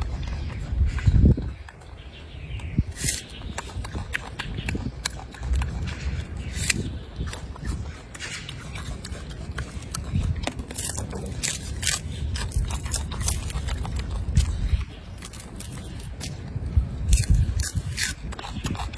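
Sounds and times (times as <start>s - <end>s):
monkey chewing crisp food: 0.0s - 18.9s.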